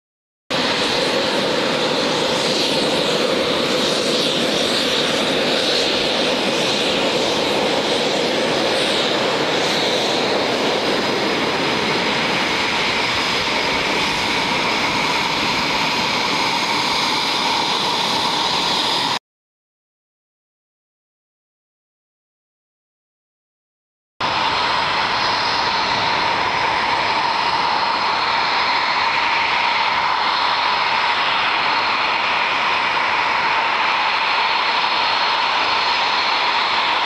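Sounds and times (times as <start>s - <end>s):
jet engines running with whine: 0.5s - 19.2s, 24.2s - 37.0s.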